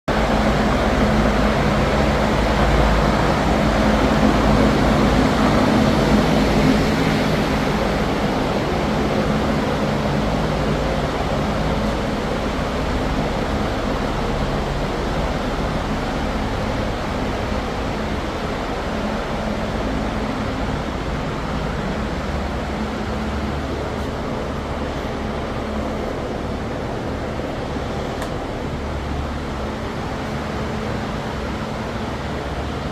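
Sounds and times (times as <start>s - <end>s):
fan motor running: 0.1s - 32.9s.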